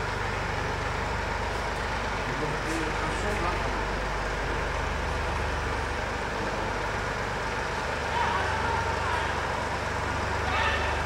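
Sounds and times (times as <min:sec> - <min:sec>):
small tractor engine running: 0:00.0 - 0:11.0.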